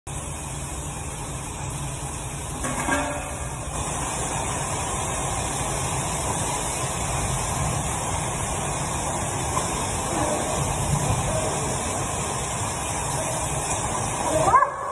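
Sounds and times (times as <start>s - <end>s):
pressure washer spraying water: 0.1s - 14.9s.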